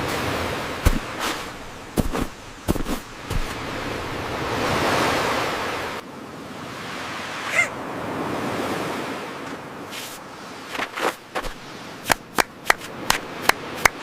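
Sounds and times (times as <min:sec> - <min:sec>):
ocean surf washing in: 0:00.0 - 0:14.0.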